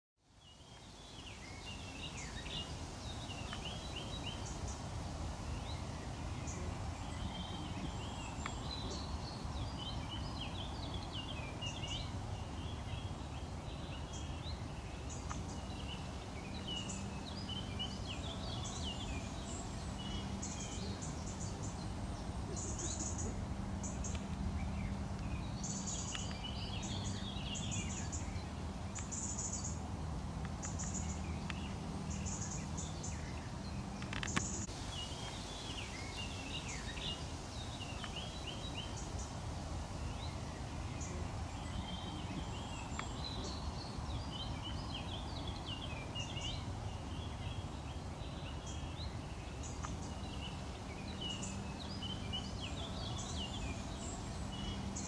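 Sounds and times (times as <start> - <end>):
songbirds chirping: 0.2 - 55.0
steady low rumble: 3.0 - 55.0.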